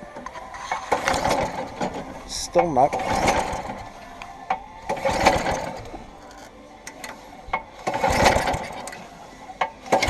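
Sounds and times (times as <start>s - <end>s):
lawnmower engine running: 0.0s - 10.0s
lawnmower engine pull-start: 0.2s - 10.0s.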